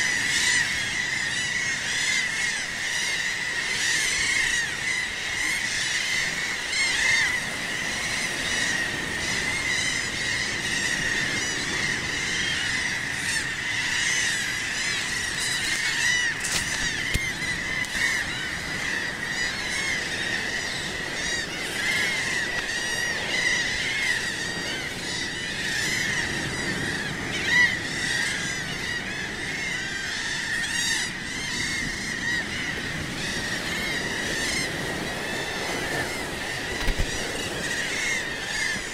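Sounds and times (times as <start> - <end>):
seabird colony calling: 0.0 - 38.9.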